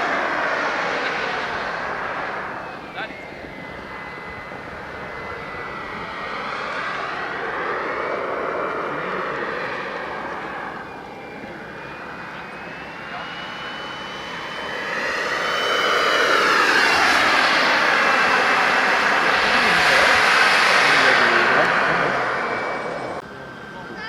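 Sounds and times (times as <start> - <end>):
model aircraft engine whine: 0.0 - 24.0.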